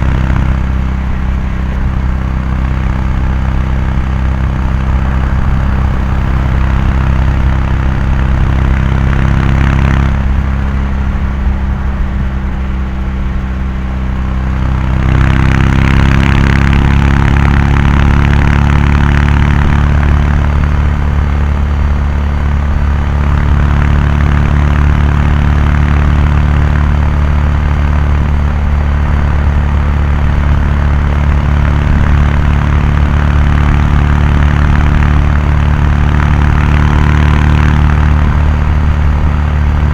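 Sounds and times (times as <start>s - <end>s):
motorcycle exhaust cruising: 0.0s - 39.9s.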